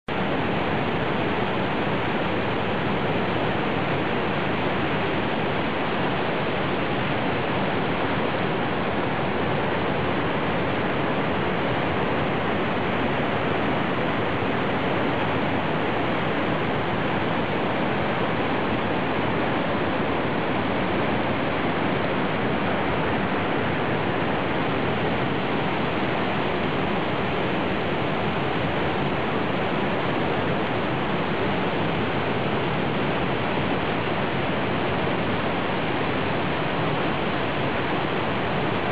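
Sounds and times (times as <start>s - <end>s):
rush of falling water: 0.1s - 38.9s.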